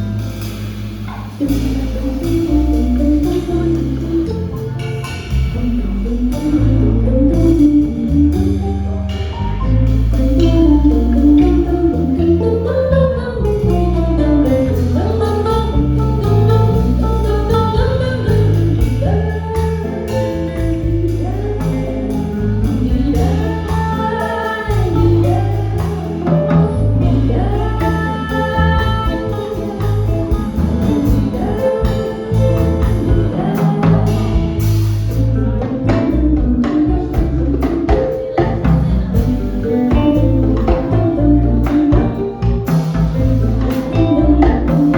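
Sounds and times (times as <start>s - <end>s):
band playing: 0.0s - 44.9s
person singing: 1.3s - 44.9s.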